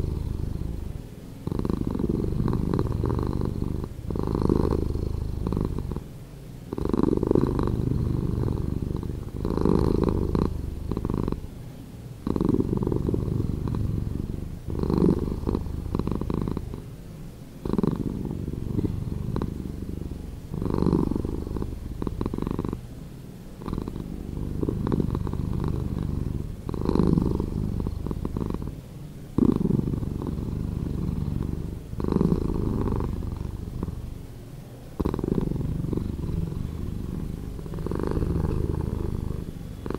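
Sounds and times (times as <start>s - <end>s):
slowed cat purring: 0.0s - 6.1s, 6.7s - 11.6s, 12.2s - 22.9s, 23.5s - 39.9s.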